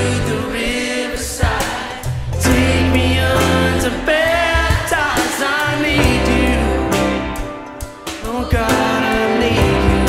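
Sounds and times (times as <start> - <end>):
instrumental accompaniment: 0.0 - 10.0
person singing: 0.0 - 10.0.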